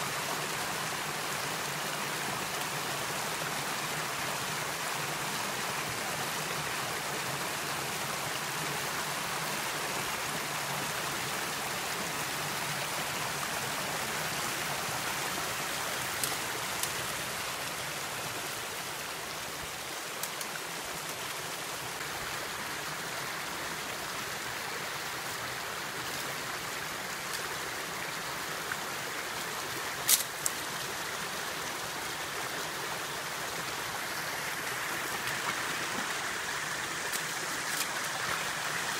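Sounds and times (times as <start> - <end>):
creek water over stones: 0.0 - 38.9.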